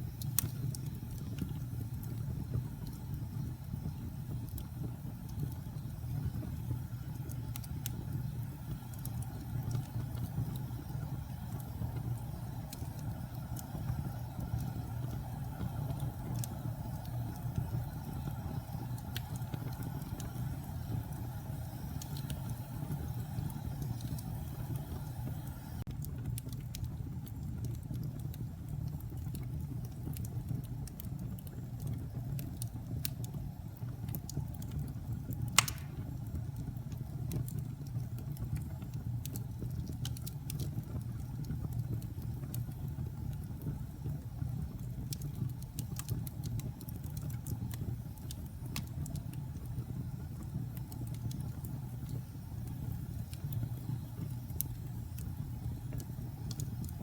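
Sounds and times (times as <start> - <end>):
low fire rumble: 0.0 - 57.0
wood fire crackling and popping: 0.0 - 57.0.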